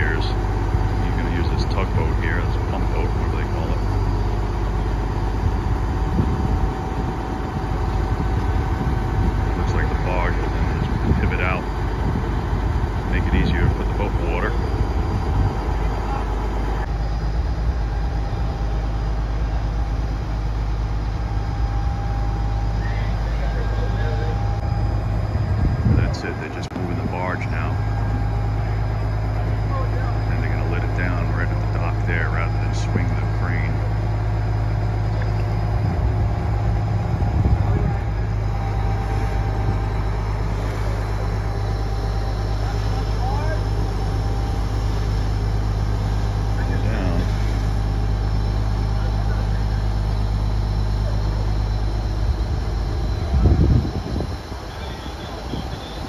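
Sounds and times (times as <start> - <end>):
heavy crane engine droning: 0.0 - 56.0.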